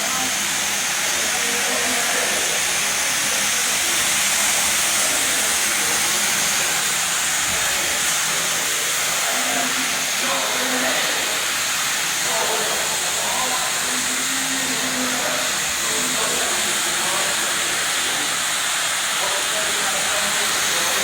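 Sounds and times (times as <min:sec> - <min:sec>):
carpet washing machine hissing: 0:00.0 - 0:21.0.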